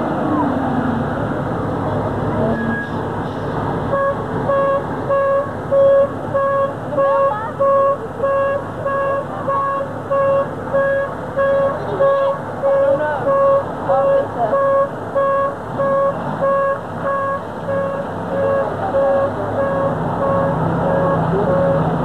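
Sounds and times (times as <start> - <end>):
truck engine running: 0.0 - 22.0
vehicle warning beeper: 2.5 - 3.0, 3.9 - 21.9.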